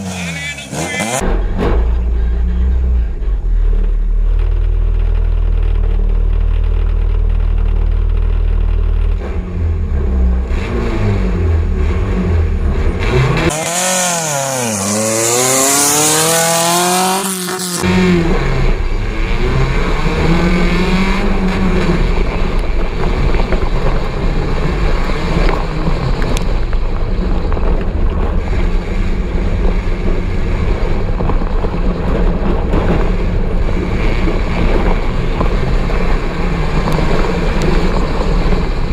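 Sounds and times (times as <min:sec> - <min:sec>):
buggy engine revving: 0:00.0 - 0:38.9.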